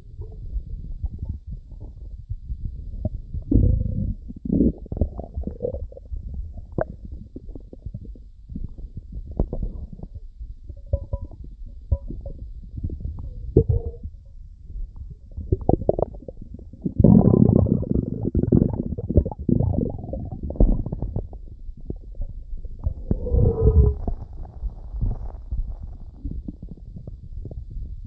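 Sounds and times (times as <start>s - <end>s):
stomach rumbling and gurgling: 0.0s - 28.0s.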